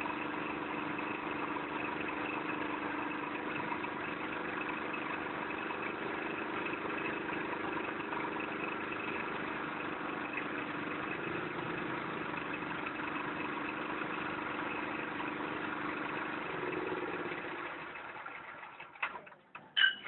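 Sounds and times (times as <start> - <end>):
threshing machine running: 0.0 - 20.0.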